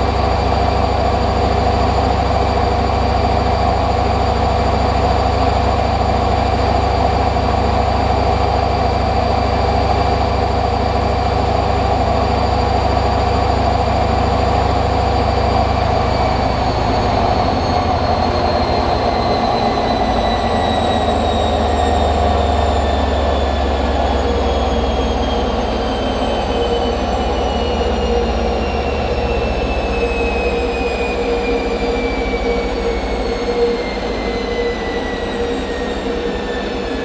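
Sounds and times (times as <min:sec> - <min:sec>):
washing machine spin whine: 0:00.0 - 0:37.0.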